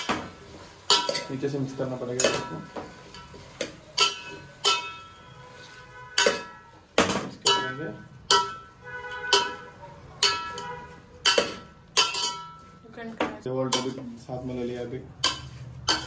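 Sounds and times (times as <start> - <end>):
metal spoon scraping a pot: 0.0 - 12.8, 13.6 - 16.0.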